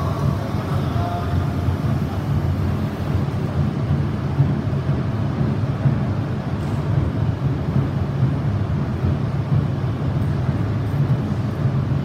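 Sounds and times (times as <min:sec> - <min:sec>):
train motors and wheels rumbling: 0:00.0 - 0:12.0.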